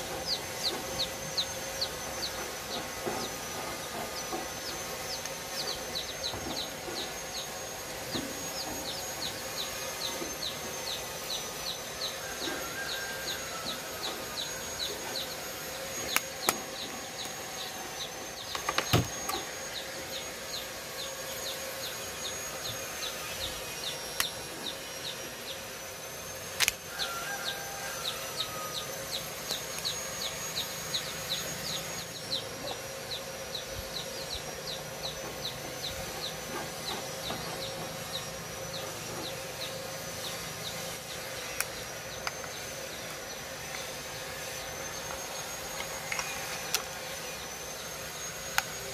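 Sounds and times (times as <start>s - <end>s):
steady high whine: 0.0s - 48.9s.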